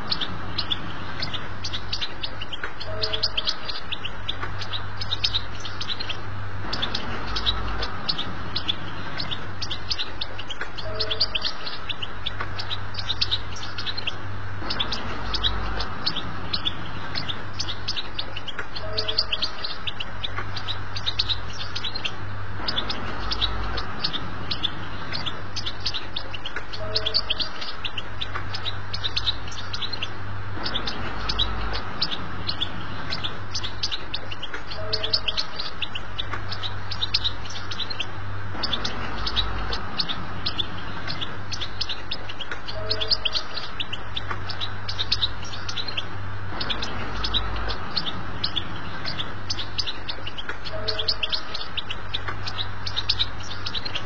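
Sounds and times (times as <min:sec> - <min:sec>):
goldfinch twittering song: 0:00.0 - 0:54.0
steady low hum: 0:00.0 - 0:54.0.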